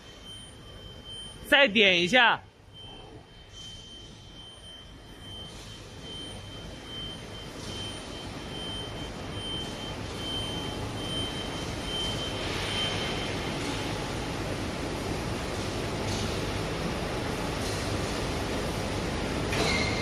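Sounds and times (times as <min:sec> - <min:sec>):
steady machinery noise: 0:00.0 - 0:20.0.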